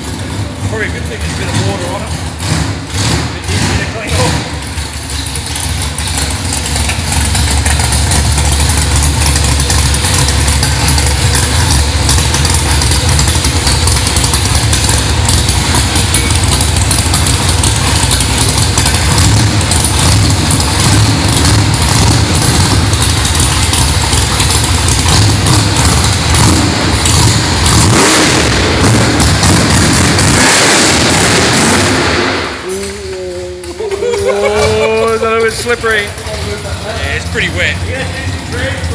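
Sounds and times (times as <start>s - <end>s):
drag car engine idling: 0.0s - 38.9s.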